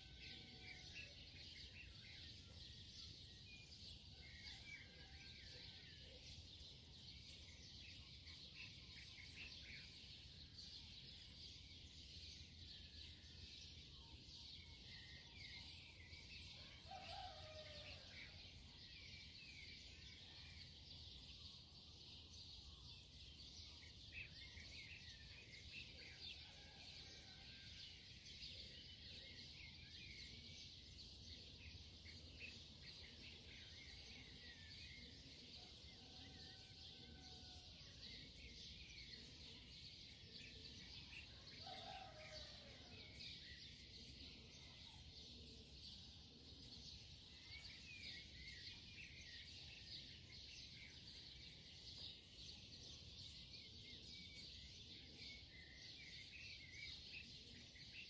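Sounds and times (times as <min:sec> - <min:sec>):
faint birds chirping: 0:00.0 - 0:58.0.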